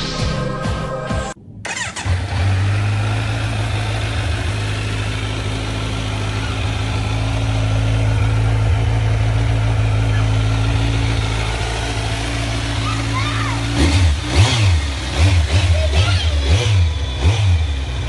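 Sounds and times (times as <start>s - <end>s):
motorcycle engine idling: 1.6s - 18.0s.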